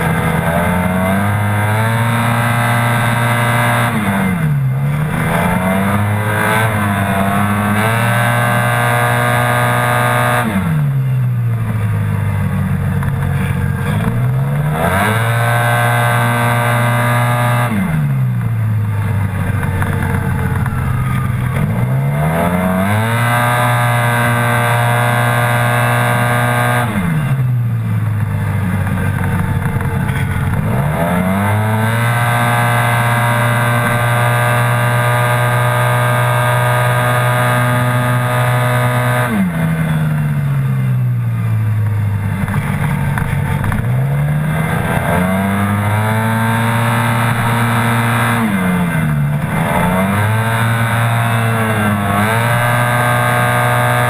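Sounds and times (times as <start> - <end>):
scooter engine revving: 0.0 - 54.0.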